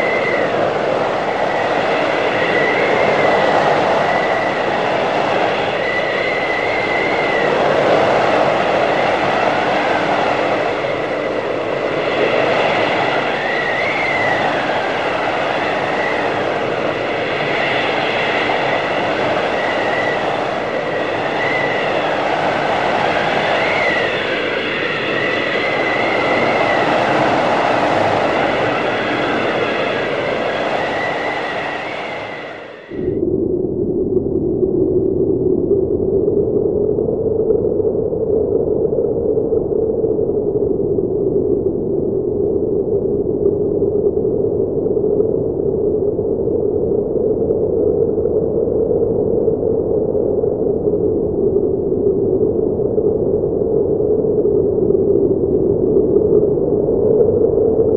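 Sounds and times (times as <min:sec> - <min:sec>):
blizzard wind blowing hard: 0:00.0 - 0:57.9
high whistling wind: 0:00.0 - 0:57.9.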